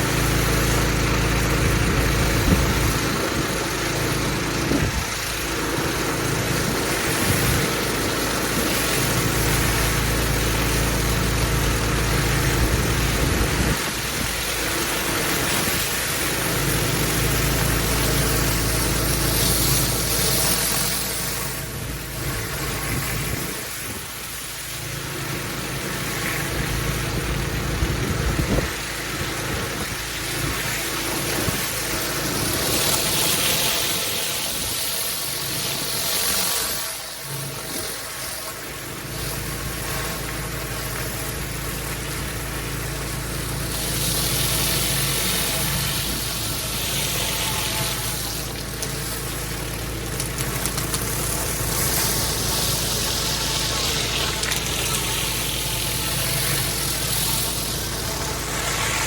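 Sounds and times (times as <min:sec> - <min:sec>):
pressure washer engine: 0:00.0 - 0:59.0
water spraying on paving: 0:00.0 - 0:59.0.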